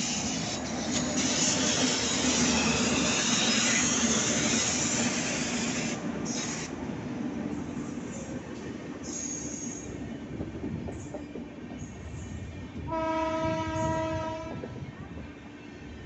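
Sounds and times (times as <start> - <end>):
train wheels hissing on rail: 0.0 - 14.8.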